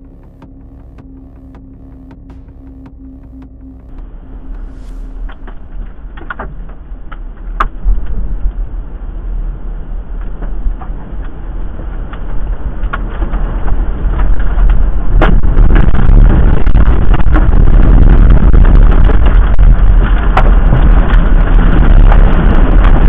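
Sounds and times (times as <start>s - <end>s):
storm wind roaring: 2.2s - 23.0s.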